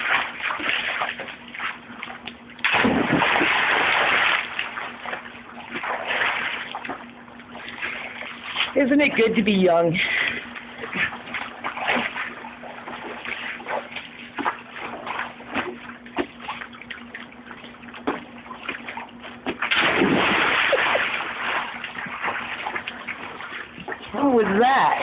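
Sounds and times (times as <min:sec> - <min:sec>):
person jumping into a pool: 0:00.0 - 0:08.8, 0:10.0 - 0:25.0
pool water sloshing: 0:00.0 - 0:25.0.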